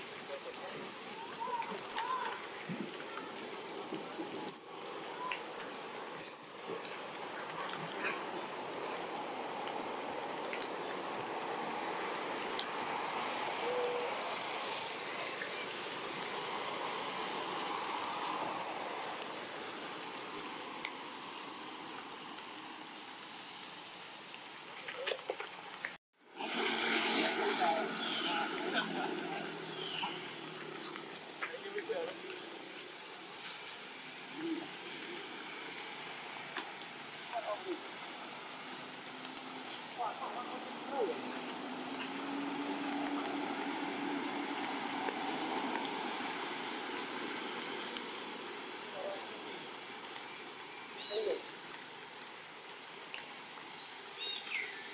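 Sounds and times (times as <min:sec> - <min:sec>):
forest ambience hiss: 0:00.0 - 0:54.9.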